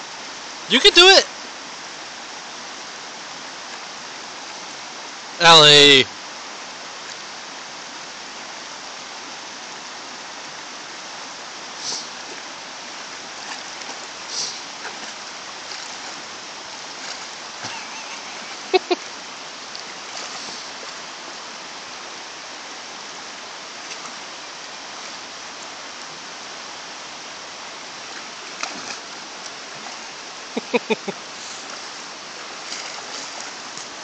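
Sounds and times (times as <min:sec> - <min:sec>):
creek water running over rocks: 0:00.0 - 0:34.0.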